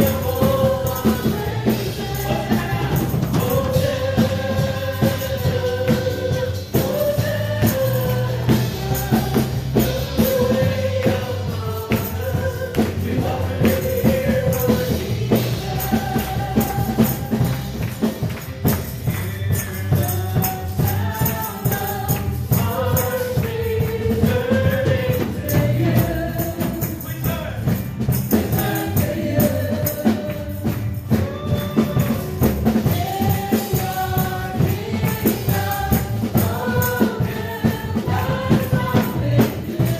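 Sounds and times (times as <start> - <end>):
gospel song with singers and band: 0.0 - 39.9
tambourine: 0.0 - 39.9.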